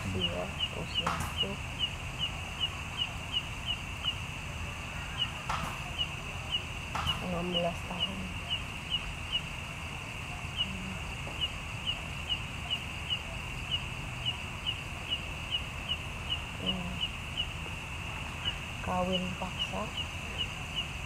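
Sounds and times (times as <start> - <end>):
insects chirring: 0.0 - 21.0
sharp insect chirps: 0.0 - 21.0.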